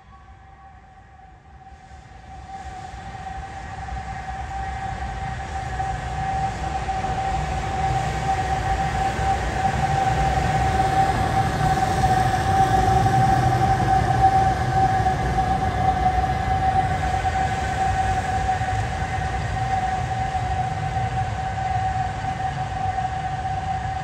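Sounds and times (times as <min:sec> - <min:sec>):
locomotive high whine: 0:00.0 - 0:24.0.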